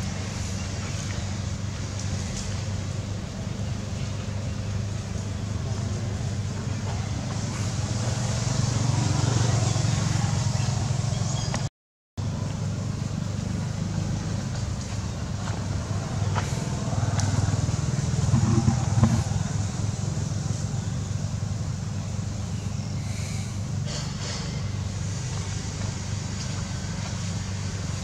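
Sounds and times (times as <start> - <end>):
low motor rumble: 0.0 - 28.0.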